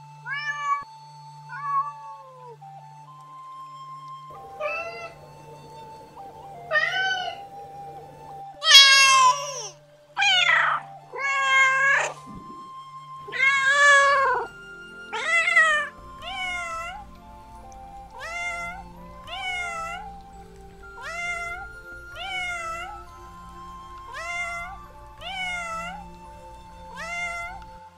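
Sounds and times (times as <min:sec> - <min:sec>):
soft held musical notes: 0:00.0 - 0:27.9
cats meowing: 0:00.3 - 0:00.8, 0:01.5 - 0:02.1, 0:04.4 - 0:07.6, 0:08.6 - 0:27.9.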